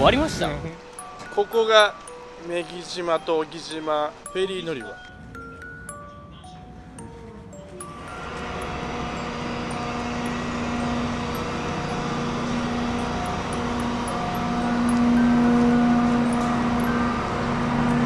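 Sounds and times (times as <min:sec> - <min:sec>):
ferry engines droning hum: 0:00.0 - 0:18.0.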